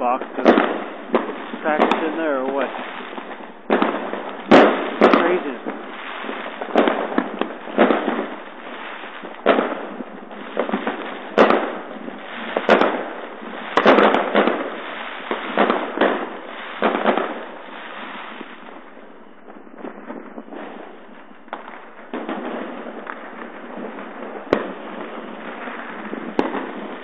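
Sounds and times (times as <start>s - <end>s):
distant explosions and crackling: 0.0s - 27.0s
sharp firework bangs: 0.0s - 27.0s.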